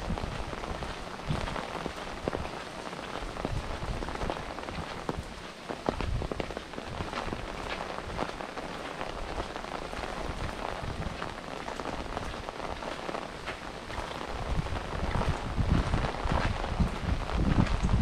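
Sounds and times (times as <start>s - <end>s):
rain drops pattering: 0.0s - 18.0s.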